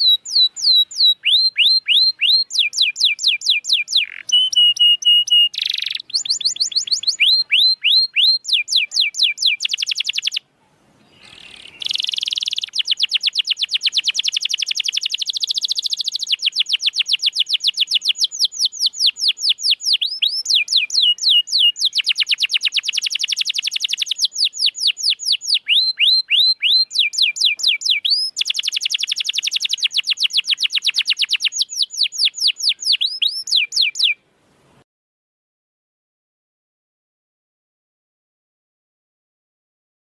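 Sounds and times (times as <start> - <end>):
canary singing trills: 0.0 - 34.2.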